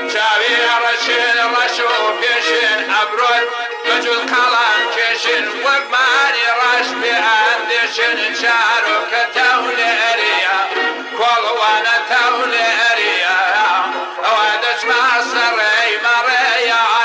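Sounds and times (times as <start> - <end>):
folk song with accompaniment: 0.0 - 17.0.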